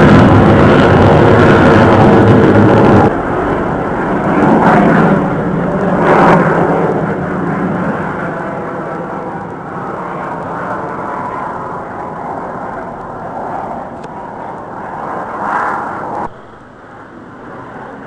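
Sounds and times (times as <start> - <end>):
jet engines passing overhead: 0.0 - 18.0.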